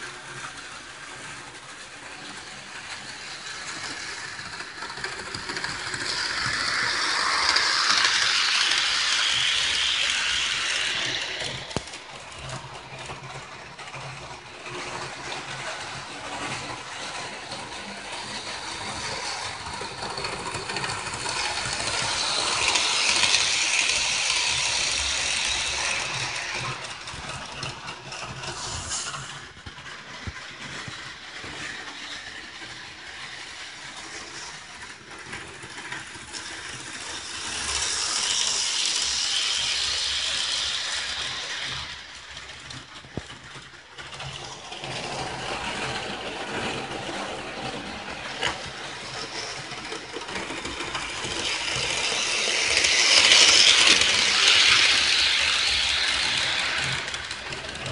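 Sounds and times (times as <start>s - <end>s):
model train rattling on track: 0.0s - 57.9s.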